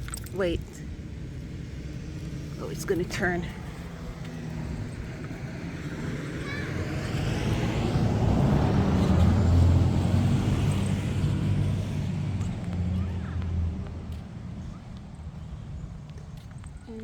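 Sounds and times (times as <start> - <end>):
bus diesel engine passing: 0.0 - 17.0.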